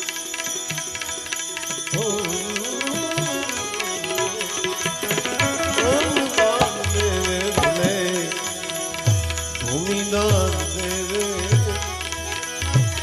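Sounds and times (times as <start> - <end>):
tabla beat: 0.0 - 13.0.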